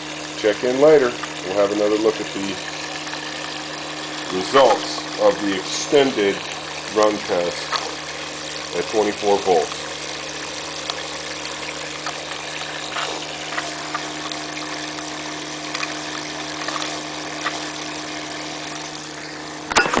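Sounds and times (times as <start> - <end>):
coolant churning and rushing: 0.0 - 20.0
pump humming: 0.0 - 20.0.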